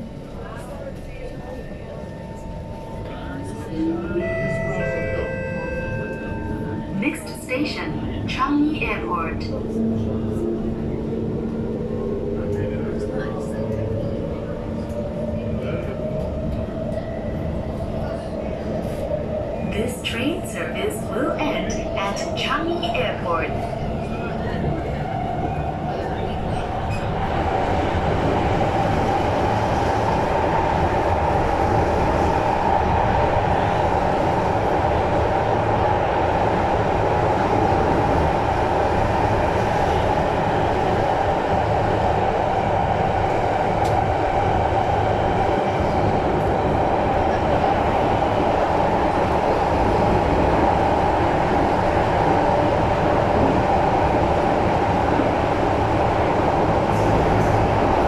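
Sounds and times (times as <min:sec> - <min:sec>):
train rumble and rail noise: 0:00.0 - 0:58.0.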